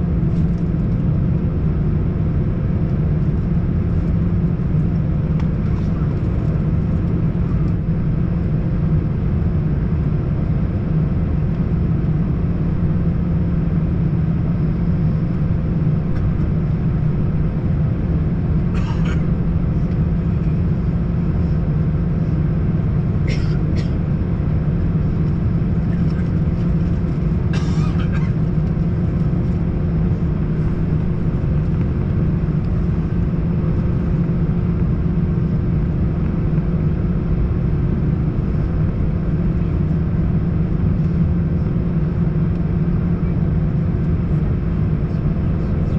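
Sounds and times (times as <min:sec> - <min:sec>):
aircraft cabin engine rumble: 0:00.0 - 0:45.9.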